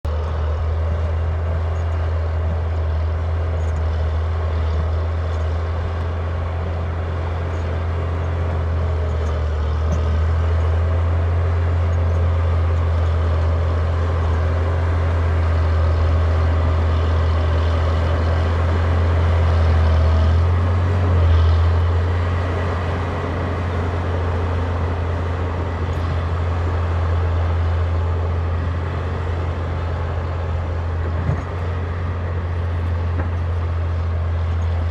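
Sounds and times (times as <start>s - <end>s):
dozer diesel engine under load: 0.0s - 34.9s.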